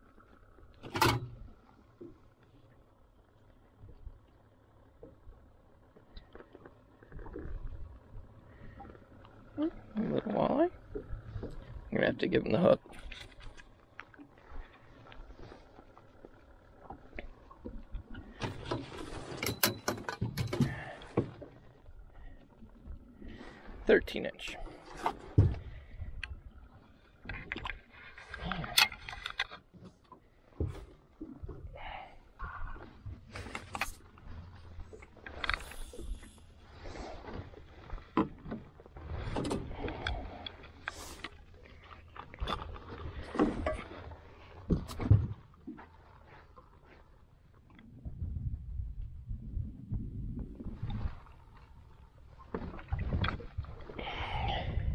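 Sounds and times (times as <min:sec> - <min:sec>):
fish handled in metal boat: 0:00.0 - 0:54.9
low steady rumble: 0:00.0 - 0:54.9.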